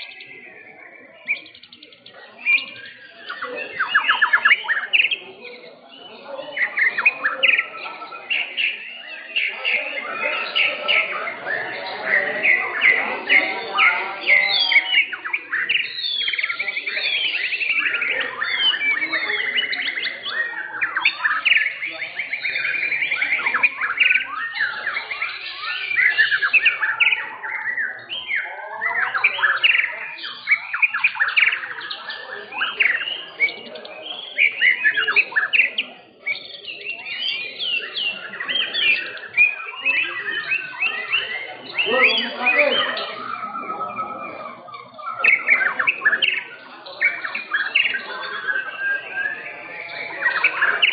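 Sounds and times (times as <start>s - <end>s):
birds singing whistles and trills: 0.0s - 50.9s.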